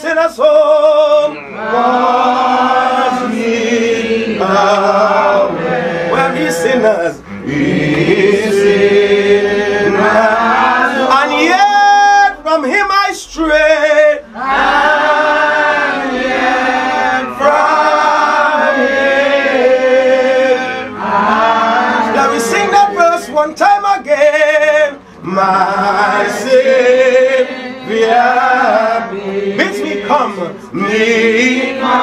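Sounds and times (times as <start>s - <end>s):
congregation singing a hymn: 0.0s - 32.0s.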